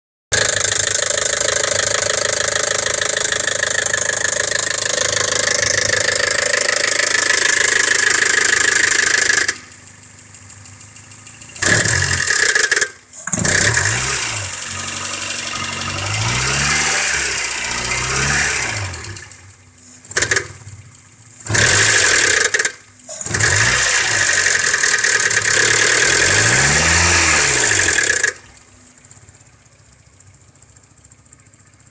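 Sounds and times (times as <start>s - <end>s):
car engine revving: 0.4s - 29.2s.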